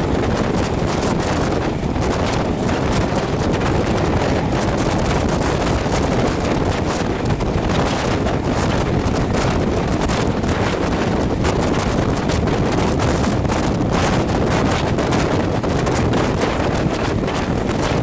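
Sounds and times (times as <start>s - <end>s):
train rumbling on track: 0.0s - 18.0s
wind buffeting microphone: 0.0s - 18.0s.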